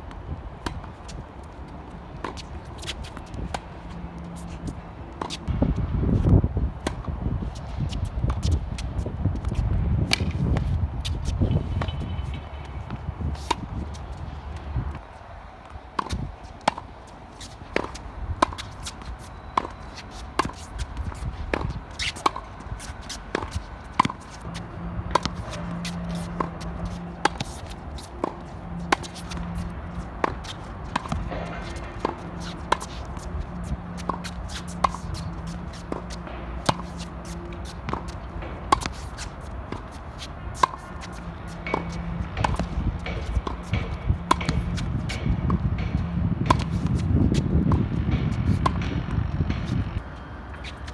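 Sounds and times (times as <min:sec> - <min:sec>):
tennis balls hit by rackets: 0:00.1 - 0:50.9.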